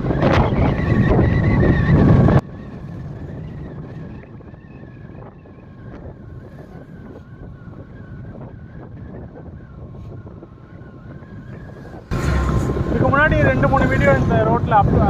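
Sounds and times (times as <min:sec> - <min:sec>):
vehicle road and wind noise: 0:00.0 - 0:15.0.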